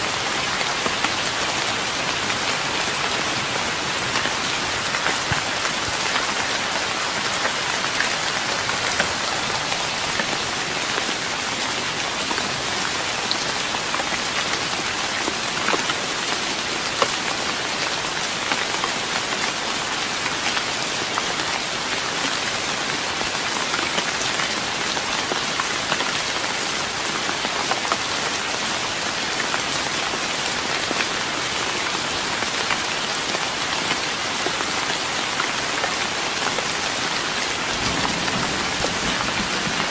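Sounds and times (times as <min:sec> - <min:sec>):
rain pattering on wooden deck: 0:00.0 - 0:39.9.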